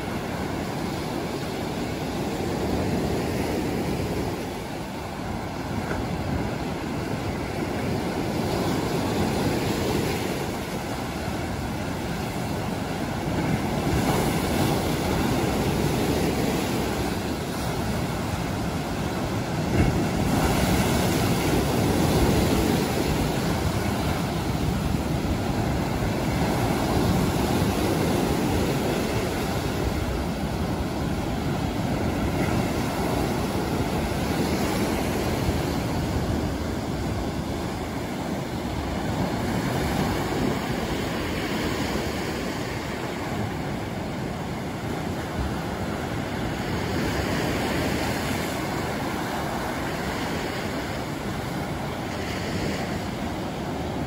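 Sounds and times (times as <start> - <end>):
waves breaking on rocks: 0.0 - 54.0.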